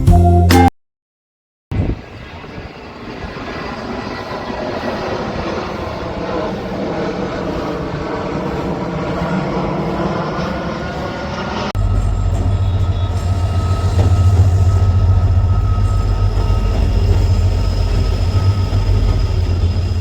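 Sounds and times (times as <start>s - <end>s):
rushing noise: 1.7s - 20.0s
locomotive engine humming: 2.3s - 20.0s.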